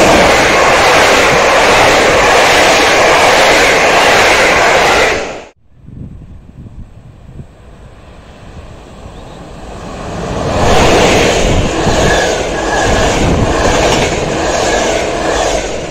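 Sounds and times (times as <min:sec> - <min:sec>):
wheels roaring on rails: 0:00.0 - 0:05.6, 0:06.5 - 0:15.9
train passing at speed: 0:00.0 - 0:15.9.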